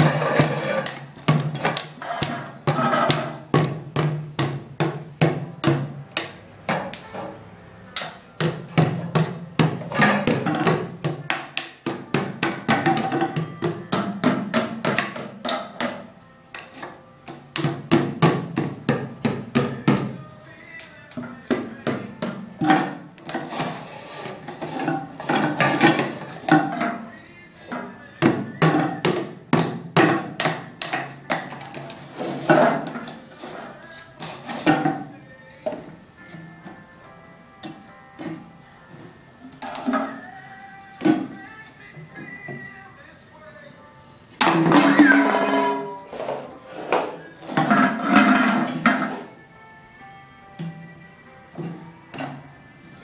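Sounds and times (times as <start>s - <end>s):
drumsticks beating plastic lids: 0.0s - 36.8s, 37.6s - 40.4s, 41.0s - 42.7s, 44.4s - 49.4s, 50.6s - 50.9s, 51.6s - 52.4s.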